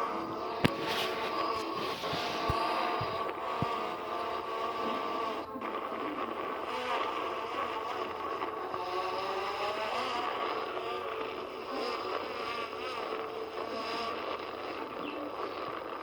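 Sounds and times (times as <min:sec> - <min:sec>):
drone propellers whirring: 0:00.0 - 0:16.0.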